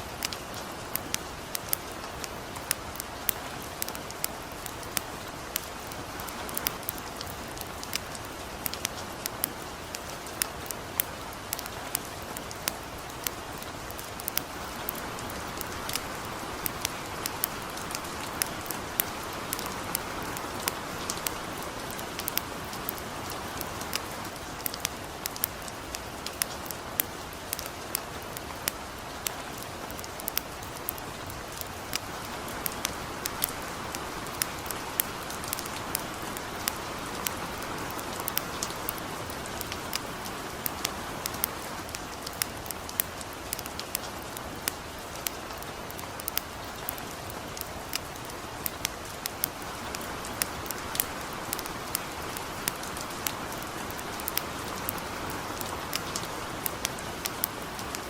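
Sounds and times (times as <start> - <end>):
light rain hissing: 0.0 - 58.0
wood fire crackling: 0.0 - 58.0.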